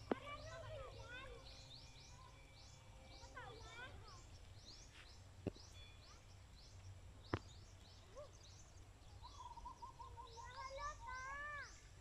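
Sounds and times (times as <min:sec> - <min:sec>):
rapid lower bird calls: 0:00.0 - 0:12.0
small birds chirping: 0:00.0 - 0:12.0.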